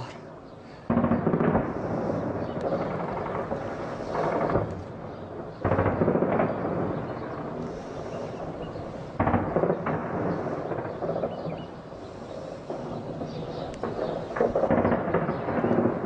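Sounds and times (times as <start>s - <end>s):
shelling blasts with rumble: 0.0s - 16.0s.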